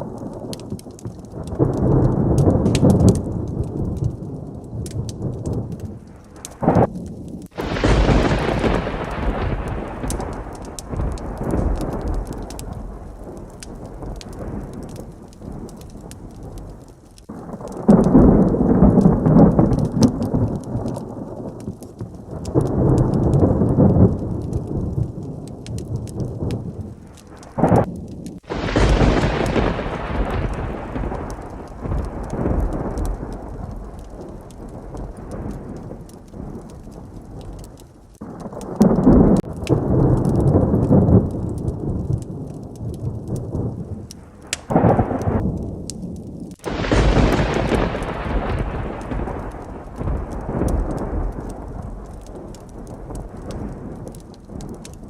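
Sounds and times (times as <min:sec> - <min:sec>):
heavy rain patter: 0:00.0 - 0:55.0
sharp close thunderclap: 0:00.0 - 0:55.0
thunder rumbling: 0:00.0 - 0:55.0.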